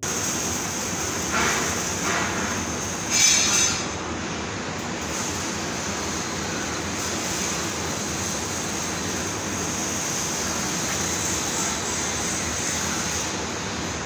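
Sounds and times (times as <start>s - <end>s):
welding arc hissing: 0.0s - 4.1s, 4.7s - 14.0s
factory background noise: 0.0s - 14.0s.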